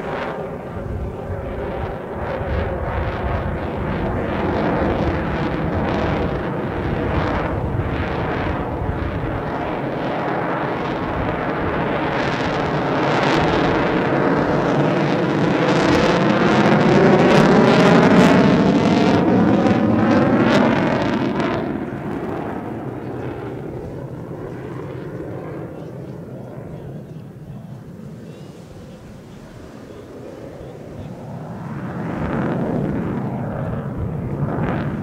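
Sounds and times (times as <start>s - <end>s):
jet passing overhead: 0.0s - 35.0s.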